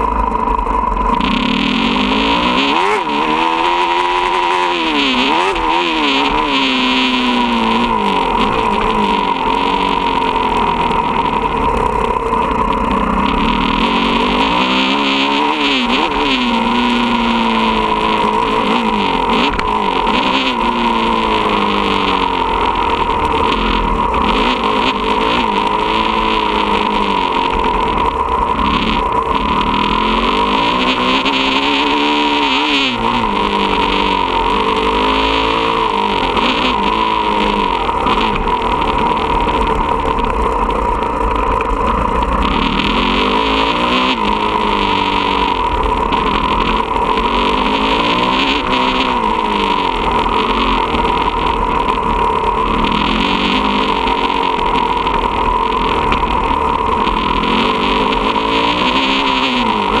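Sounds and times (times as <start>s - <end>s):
dirt bike engine revving: 0.0s - 60.0s
steady rushing noise: 0.0s - 60.0s.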